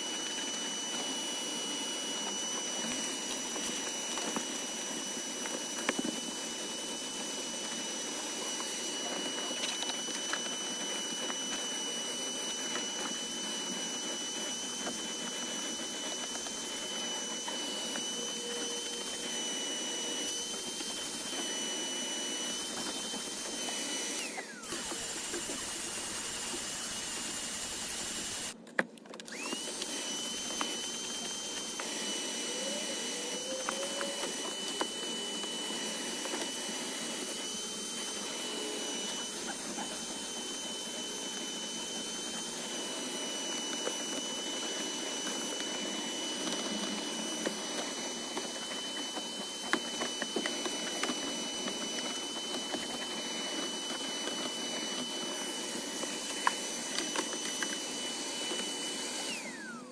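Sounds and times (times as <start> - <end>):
vacuum cleaner motor whining: 0.0 - 59.9.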